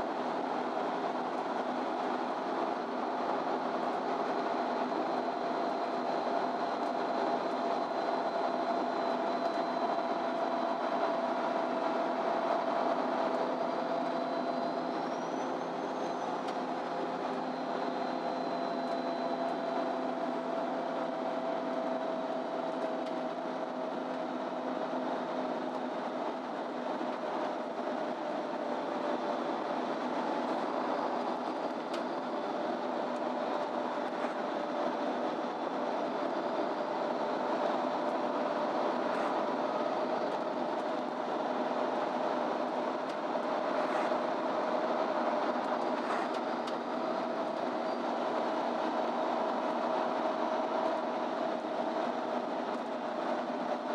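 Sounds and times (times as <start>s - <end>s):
bus engine whine: 0.0s - 53.9s
road noise rumble: 0.0s - 53.9s.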